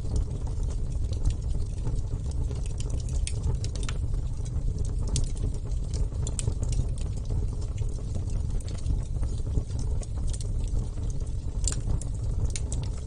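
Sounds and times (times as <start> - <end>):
fire crackling and popping: 0.0 - 13.0
fire low rumble: 0.0 - 13.0.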